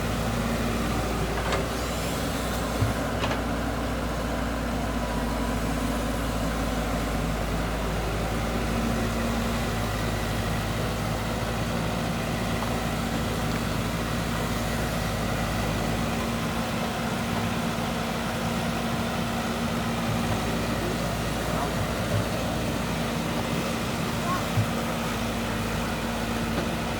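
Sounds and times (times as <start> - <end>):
heavy machinery engine running: 0.0 - 26.9.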